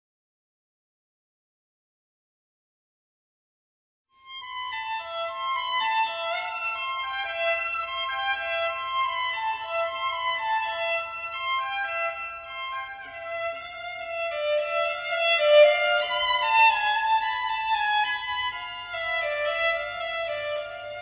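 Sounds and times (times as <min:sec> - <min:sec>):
violin melody: 0:04.2 - 0:21.0.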